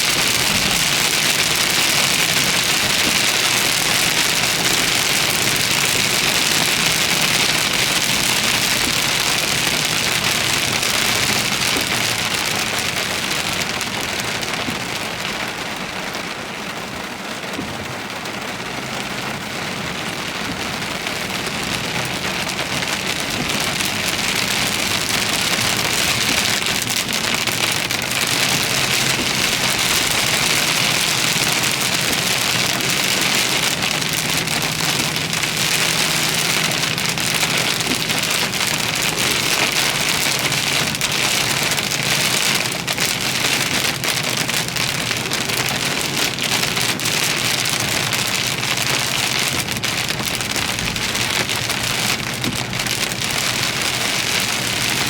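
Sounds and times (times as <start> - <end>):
heavy rain on a car: 0.0 - 55.0
low vehicle hum: 0.0 - 55.0.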